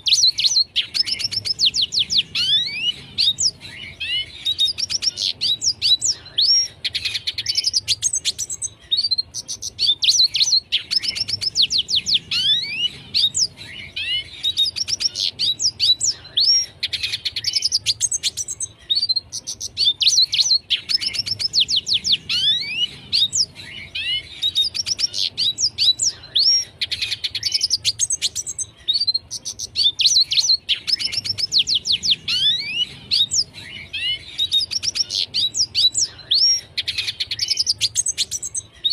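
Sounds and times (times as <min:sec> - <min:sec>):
bird singing twittering song: 0:00.0 - 0:38.9.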